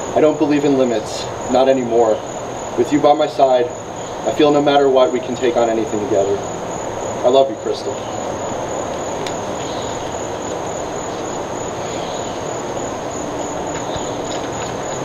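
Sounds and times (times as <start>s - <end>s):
high thin insect drone: 0.0s - 15.0s
outdoor background rumble: 0.0s - 15.0s.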